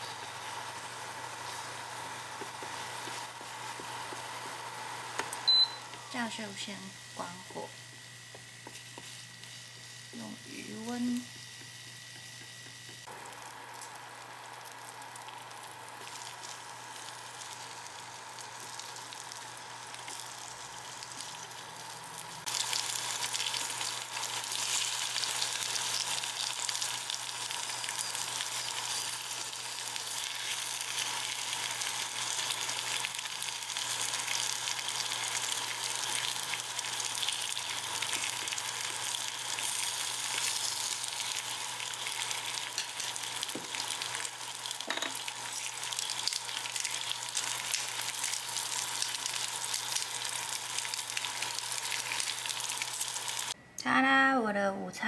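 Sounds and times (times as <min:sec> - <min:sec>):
food sizzling in a frying pan: 0:00.0 - 0:53.6.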